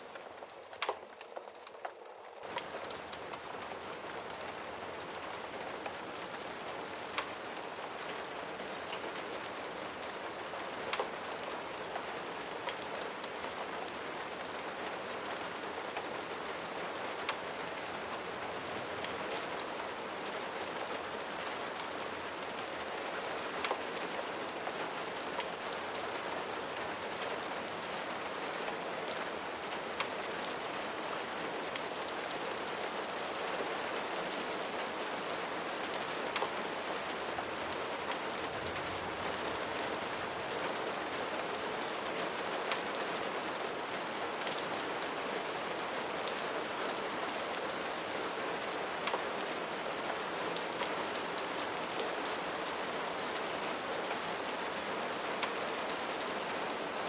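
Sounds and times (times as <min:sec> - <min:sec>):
rain hissing on a surface: 0:00.0 - 0:57.0.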